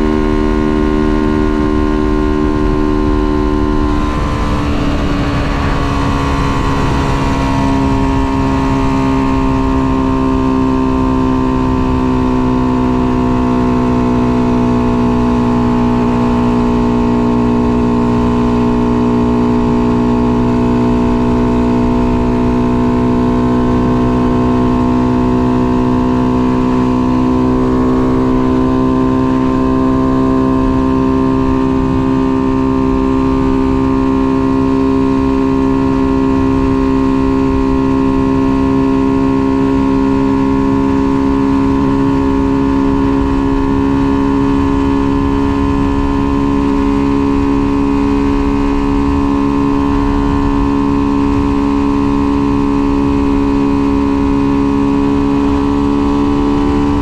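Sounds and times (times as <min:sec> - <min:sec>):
motorcycle engine at high revs: 0:00.0 - 0:57.0
road rumble: 0:00.0 - 0:57.0
wind: 0:00.0 - 0:57.0.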